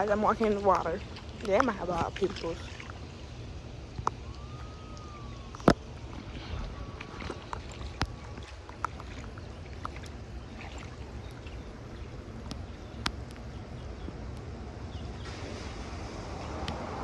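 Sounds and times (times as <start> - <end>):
light rain: 0.0 - 17.0
wind rumbling on microphone: 0.0 - 17.0.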